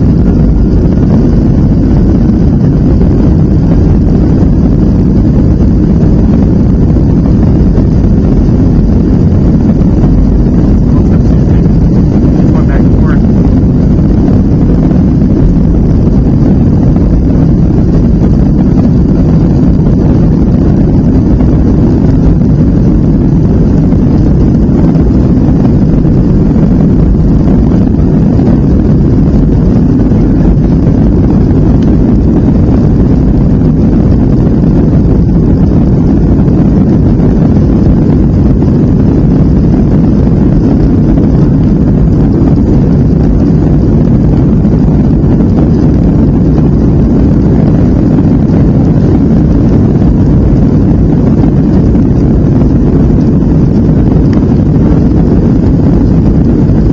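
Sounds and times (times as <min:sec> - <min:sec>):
jet engines rumbling in cabin: 0:00.0 - 0:56.9.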